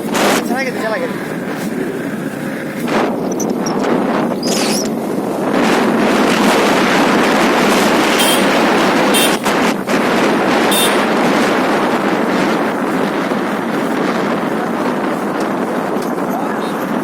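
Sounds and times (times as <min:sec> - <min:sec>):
motorcycle road noise: 0:00.0 - 0:17.0
wind rushing over microphone: 0:00.0 - 0:17.0.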